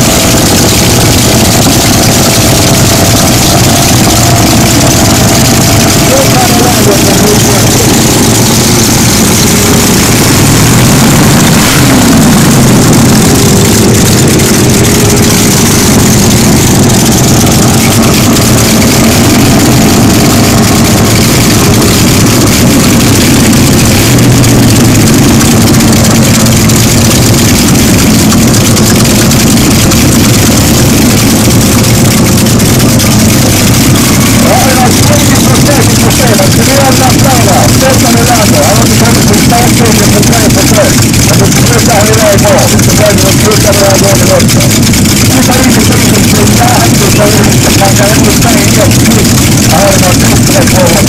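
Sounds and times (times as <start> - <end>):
drone of car engines: 0.0 - 51.0
engine revving: 0.0 - 51.0.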